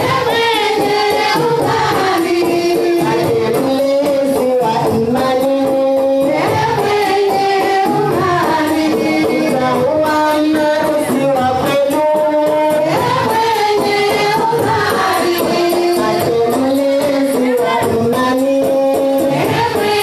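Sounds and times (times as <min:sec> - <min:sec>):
fast percussion beat: 0:00.0 - 0:20.0
voices singing held notes: 0:00.0 - 0:20.0.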